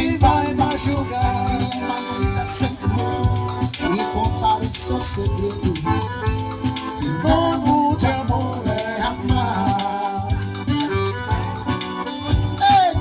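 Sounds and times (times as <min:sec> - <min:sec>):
instrumental band music: 0:00.0 - 0:13.0.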